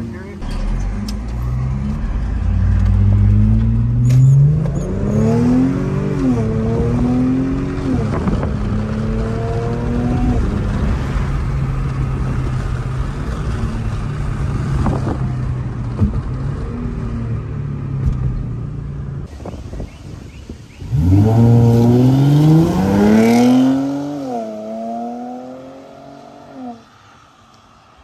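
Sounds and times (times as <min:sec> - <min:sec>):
car engine accelerating: 0:00.0 - 0:19.3, 0:20.8 - 0:26.8.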